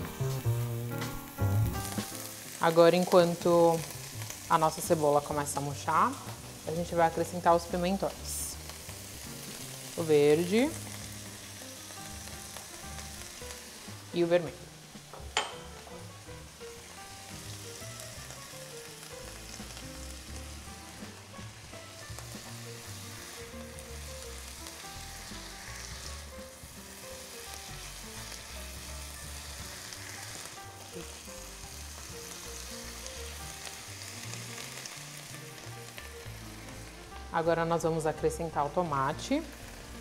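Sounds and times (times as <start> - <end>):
vegetables sizzling in a pan: 0.0 - 40.0.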